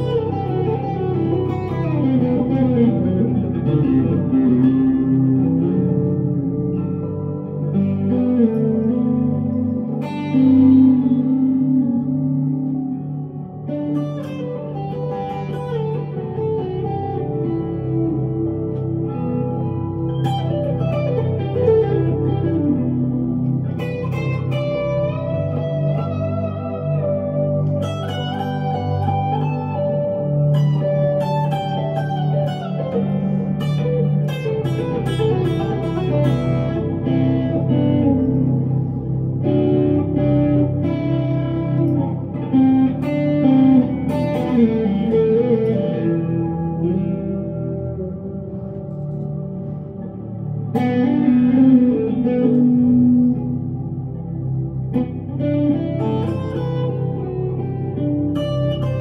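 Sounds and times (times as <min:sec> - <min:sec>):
electric guitar melodic lead: 0:00.0 - 0:59.0
ringing low guitar notes: 0:00.0 - 0:59.0.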